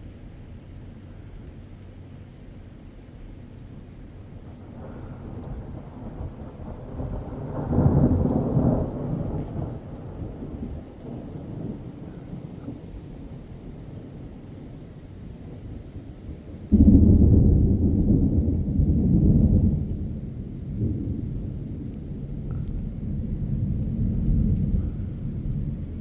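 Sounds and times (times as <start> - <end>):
thunder rolling: 4.4 - 26.0.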